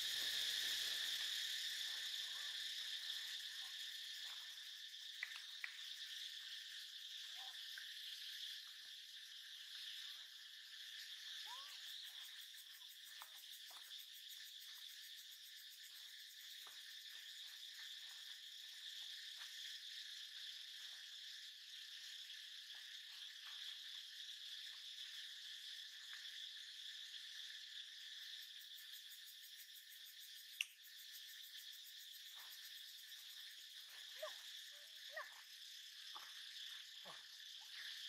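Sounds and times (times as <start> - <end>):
insect clicks and chirps: 0.0 - 38.0
insects buzzing: 0.0 - 38.0.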